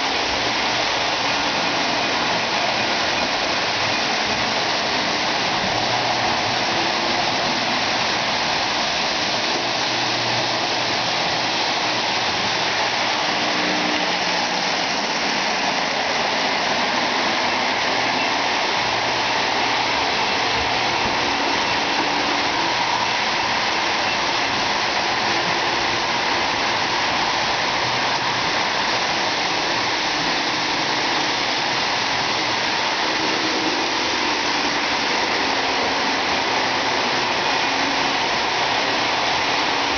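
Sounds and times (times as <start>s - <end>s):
model train wheels on rails: 0.0s - 39.9s.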